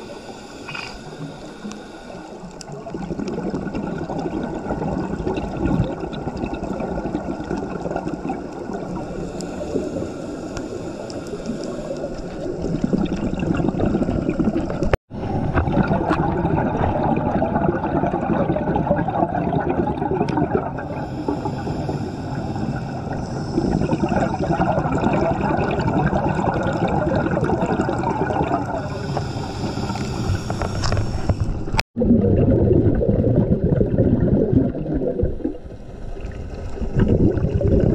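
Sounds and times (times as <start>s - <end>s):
water gurgling and sloshing: 0.0s - 37.9s.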